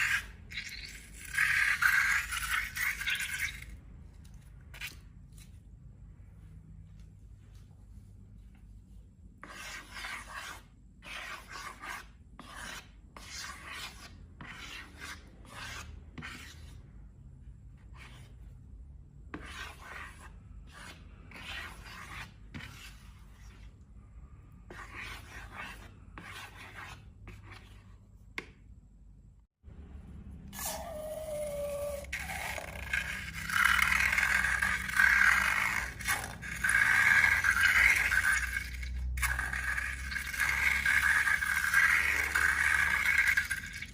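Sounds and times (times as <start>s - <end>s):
scraping and rubbing strokes: 0.0s - 6.3s, 6.9s - 17.0s, 19.3s - 28.1s, 30.5s - 43.9s.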